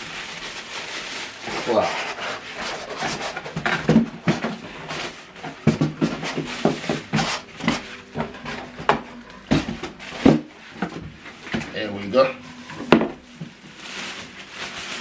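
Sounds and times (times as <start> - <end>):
cardboard and plastic rustling: 0.0 - 15.0.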